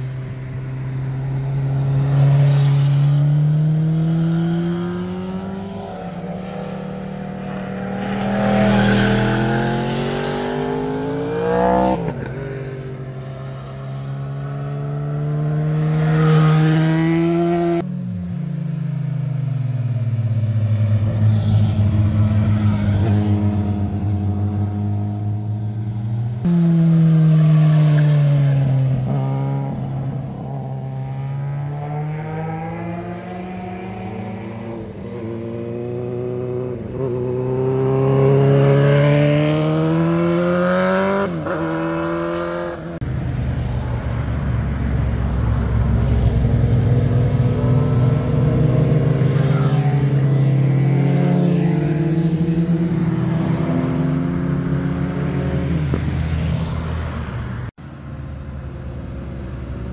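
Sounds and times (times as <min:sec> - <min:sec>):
motorcycle engines passing: 0:00.0 - 0:59.9.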